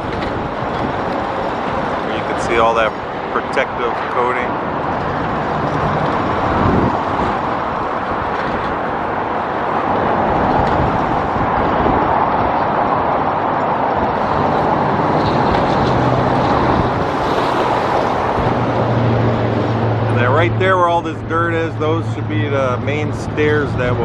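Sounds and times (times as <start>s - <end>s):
low engine hum: 0.0s - 24.0s
road traffic going by: 0.0s - 24.0s.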